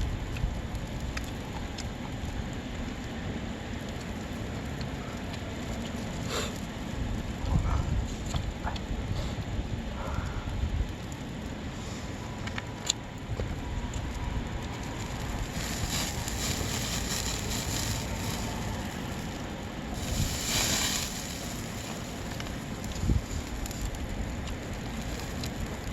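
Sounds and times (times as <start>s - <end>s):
wind rumbling on microphone: 0.0s - 25.9s.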